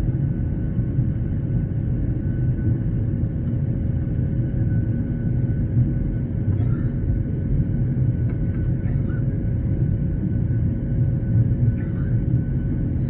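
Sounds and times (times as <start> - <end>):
airliner cabin rumble: 0.0 - 13.0
jet engine drone: 0.0 - 13.0.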